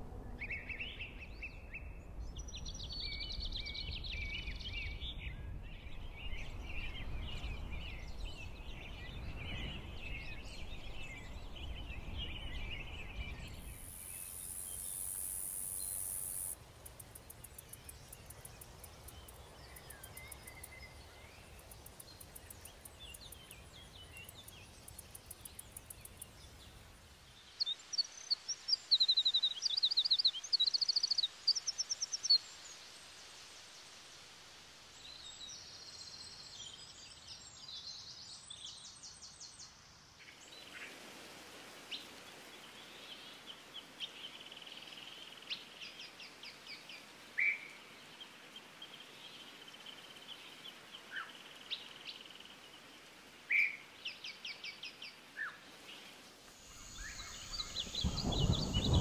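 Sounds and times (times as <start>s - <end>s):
songbirds calling: 0.0s - 32.8s, 41.9s - 59.0s
background hiss: 0.0s - 59.0s.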